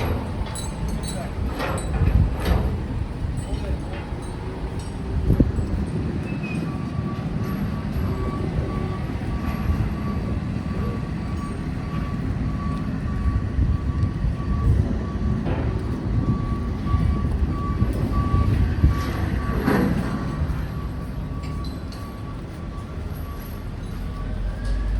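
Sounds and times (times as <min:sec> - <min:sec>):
heavy engines rumbling: 0:00.0 - 0:24.9
reversing alarm beeping: 0:00.0 - 0:24.9.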